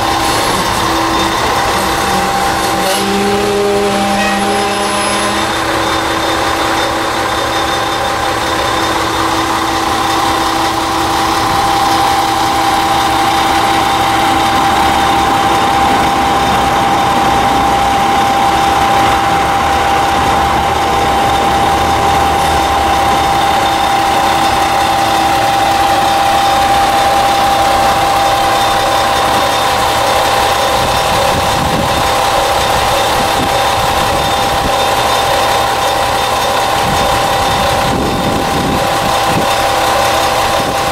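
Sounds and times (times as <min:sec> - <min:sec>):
diesel engine idling: 0:00.0 - 0:40.9
steady whine: 0:00.0 - 0:40.9.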